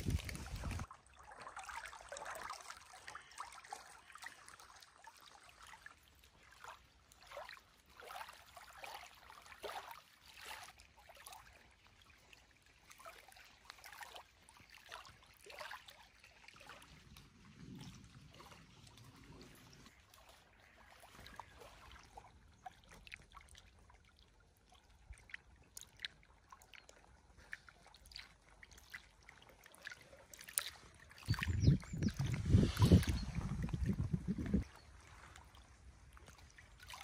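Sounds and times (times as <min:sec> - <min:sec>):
water lapping against shore: 0:00.0 - 0:37.0.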